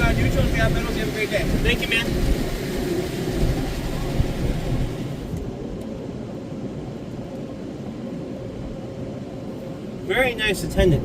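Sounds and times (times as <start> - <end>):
car engine low rumble: 0.0 - 11.0
outside noise: 0.0 - 11.0.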